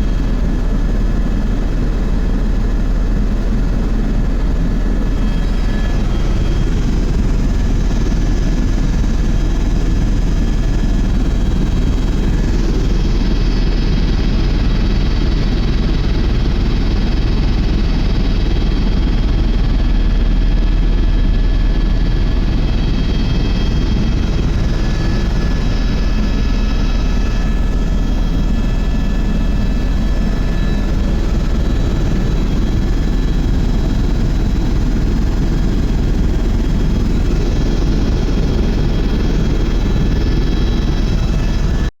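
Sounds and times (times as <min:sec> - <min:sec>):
helicopter rotor and engine drone: 0:00.0 - 0:41.9
high steady whine tones: 0:00.0 - 0:41.9.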